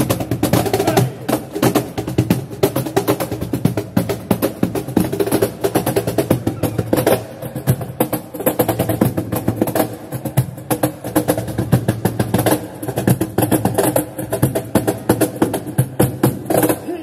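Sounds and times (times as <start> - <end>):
cajon and body percussion: 0.0 - 17.0.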